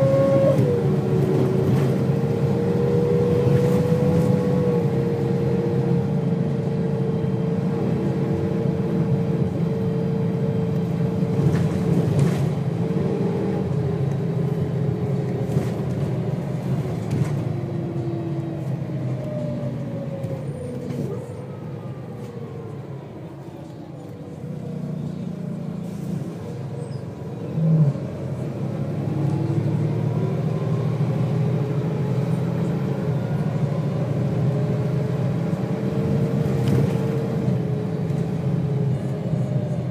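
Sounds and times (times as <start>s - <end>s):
bus engine rumble and whine: 0.0s - 39.9s.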